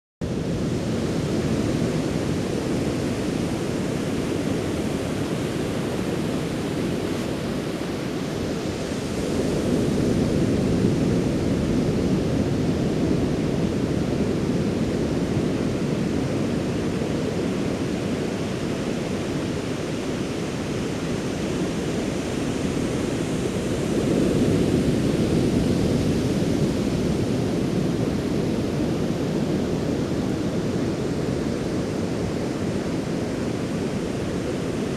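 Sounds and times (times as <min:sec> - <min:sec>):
ocean surf washing onto shore: 0:00.3 - 0:34.9.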